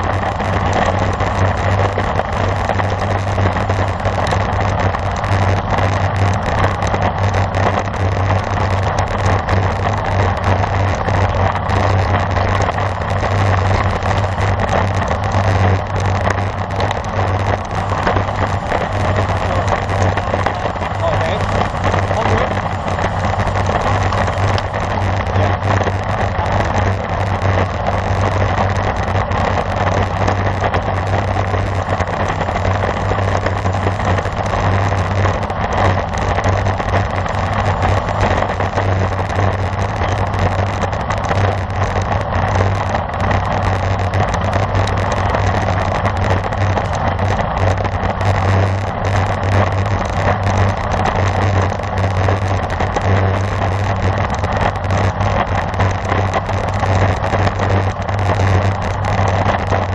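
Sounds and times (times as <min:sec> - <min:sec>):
bicycle tyre noise: 0:00.0 - 0:59.9
low hum: 0:00.0 - 0:59.9
wind rushing on microphone: 0:00.0 - 0:59.9.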